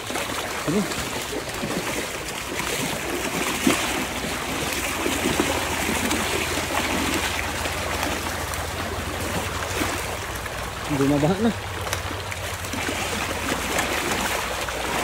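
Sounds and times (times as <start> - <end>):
boots splashing through water: 0.0 - 15.0
stream rushing over concrete: 0.0 - 15.0.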